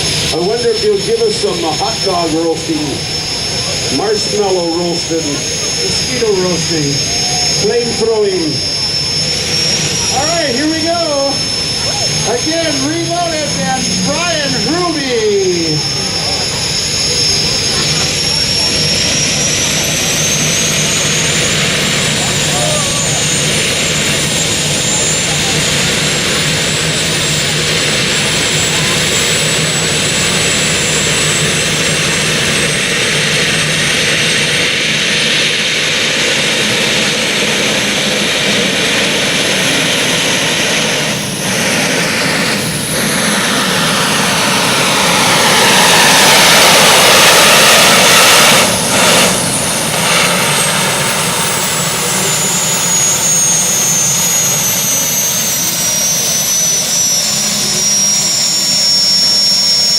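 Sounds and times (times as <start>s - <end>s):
high whine: 0.0s - 59.9s
tractor engine at full power: 0.0s - 59.9s.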